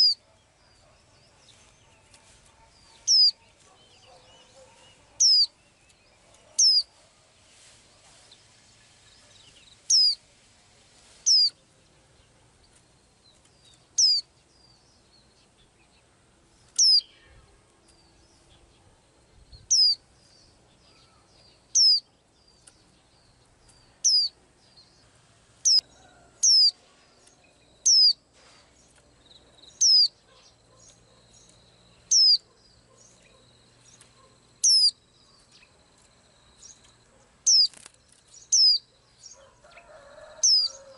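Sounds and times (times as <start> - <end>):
songbird high piercing call: 0.0 - 10.3, 11.2 - 12.3, 13.6 - 16.0, 16.6 - 18.8, 19.5 - 40.9.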